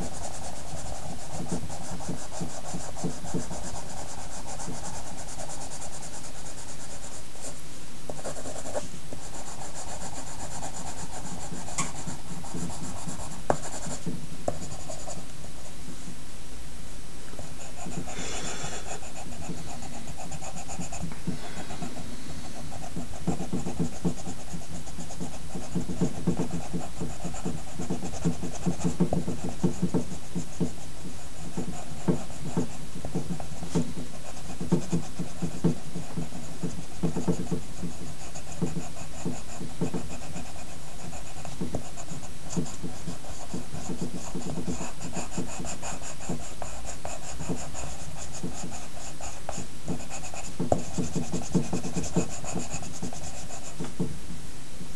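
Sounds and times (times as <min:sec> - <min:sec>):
pencil strokes on paper: 0:00.0 - 0:16.1, 0:17.4 - 0:54.1
steady hiss: 0:00.0 - 0:54.9.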